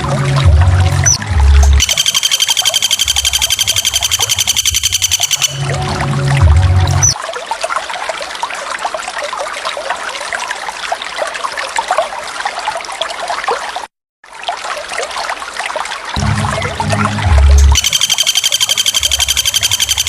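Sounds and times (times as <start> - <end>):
waterfall splashing and trickling: 0.0 - 20.0.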